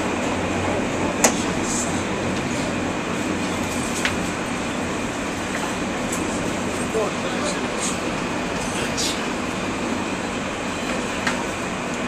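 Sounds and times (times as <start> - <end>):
subway car wheels rumbling on track: 0.0 - 12.0.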